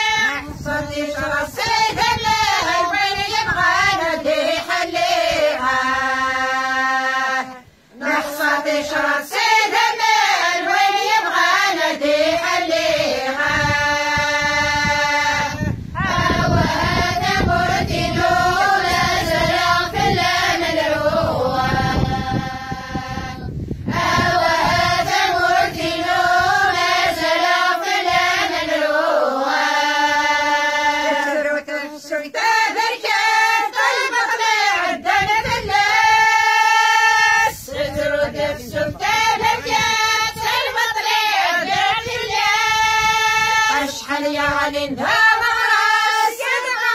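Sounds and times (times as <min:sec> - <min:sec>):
women and girls singing unaccompanied: 0:00.0 - 0:46.9.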